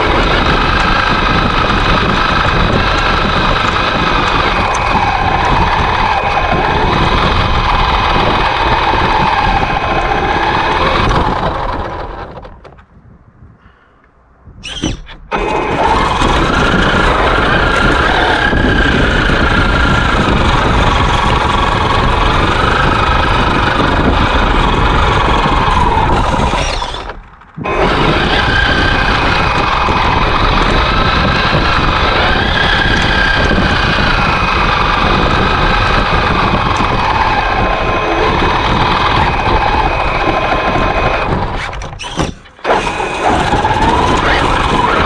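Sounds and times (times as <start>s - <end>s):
electric motor whining: 0.0s - 12.7s, 14.6s - 45.0s
truck rumbling through snow: 0.0s - 13.0s, 14.7s - 45.0s.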